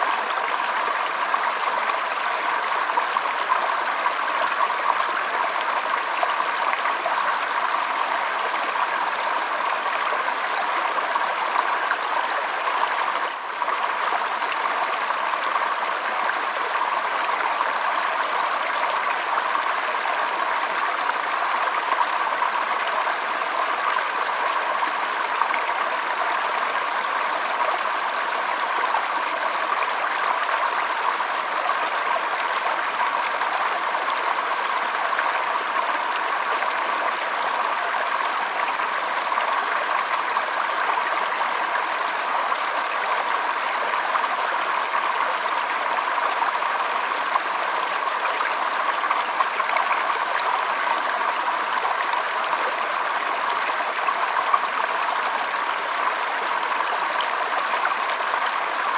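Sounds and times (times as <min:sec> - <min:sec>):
stream water flowing: 0:00.0 - 0:58.9.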